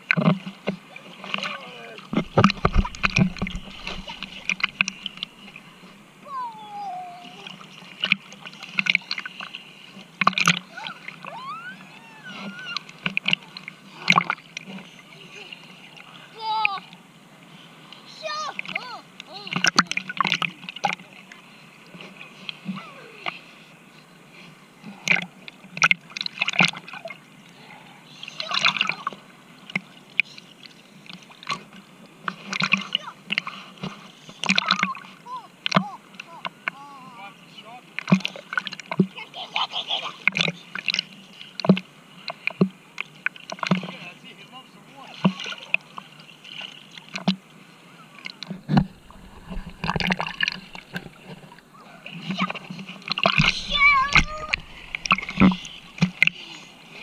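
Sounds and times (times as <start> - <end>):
sea water splashing: 0.0 - 57.0.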